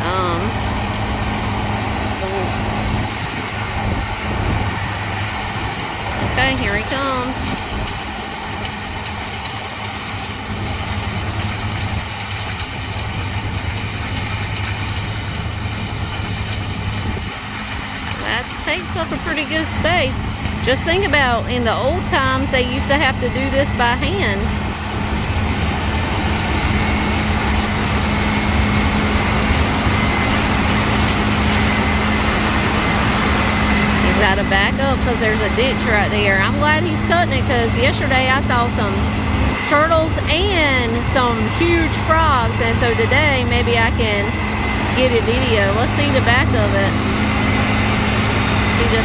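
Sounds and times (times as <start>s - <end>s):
combine harvester engine drone: 0.0s - 49.0s.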